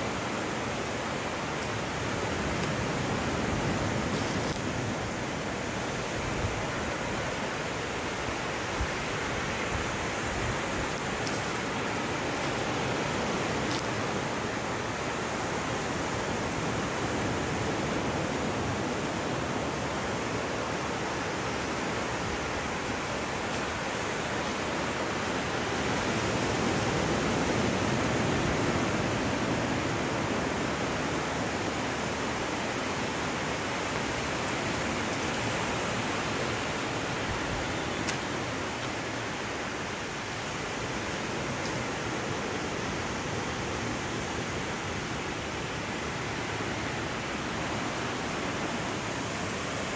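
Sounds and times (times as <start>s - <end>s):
surf washing onto beach: 0.0s - 49.9s.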